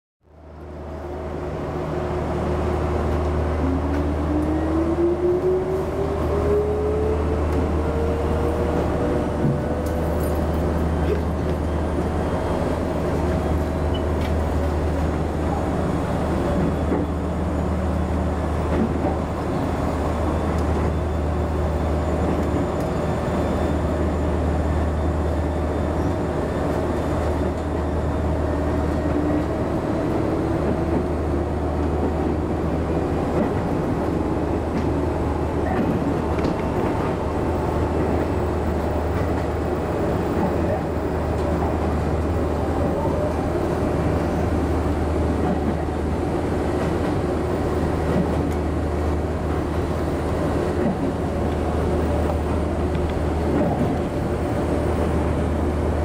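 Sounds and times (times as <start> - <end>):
train rolling on rails: 0.3 - 56.0.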